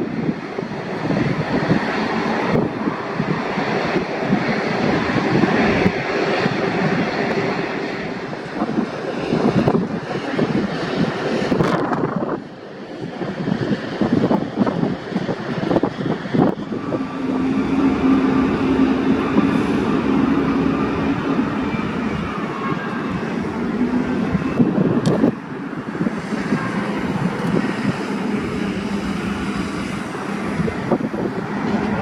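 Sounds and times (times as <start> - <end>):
jet engine noise: 0.0 - 32.0
wind buffeting microphone: 0.0 - 32.0.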